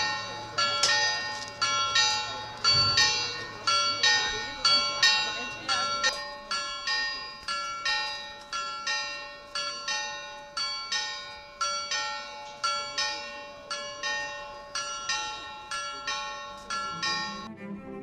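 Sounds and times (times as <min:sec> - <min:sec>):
clock bells chiming a tune: 0:00.0 - 0:17.5
long steady ringing tone: 0:00.0 - 0:17.5.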